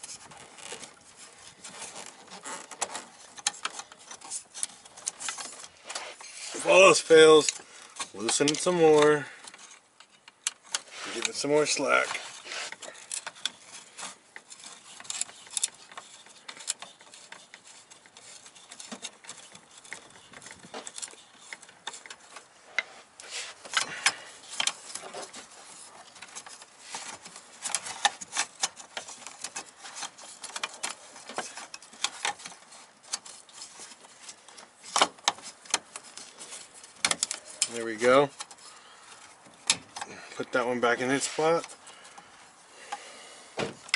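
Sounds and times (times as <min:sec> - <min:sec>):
metal and plastic clicks and scrapes: 0:00.0 - 0:43.1.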